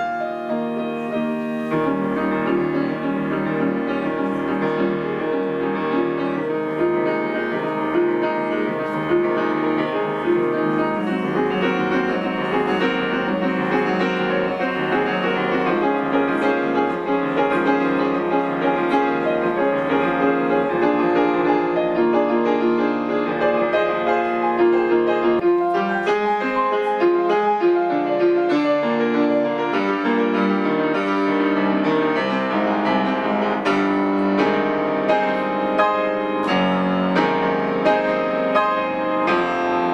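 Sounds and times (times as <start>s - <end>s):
solo grand piano piece: 0.0s - 39.9s.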